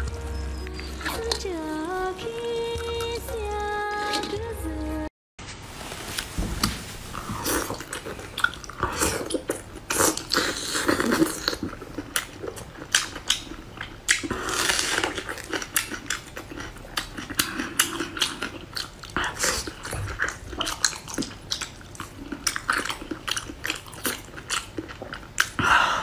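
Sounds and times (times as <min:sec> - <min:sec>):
person chewing soft food: 0:00.0 - 0:03.4, 0:07.1 - 0:26.0.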